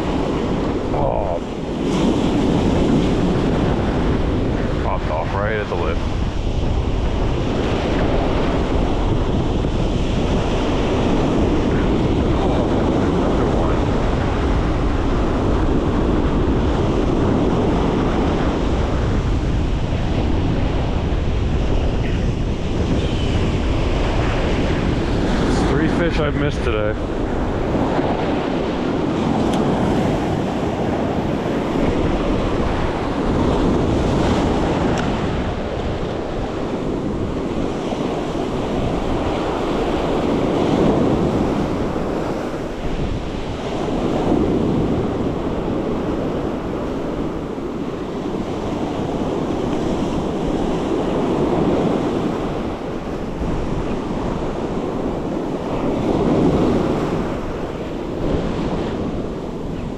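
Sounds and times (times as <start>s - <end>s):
ocean surf breaking: 0.0s - 59.9s
wind buffeting microphone: 0.0s - 59.9s.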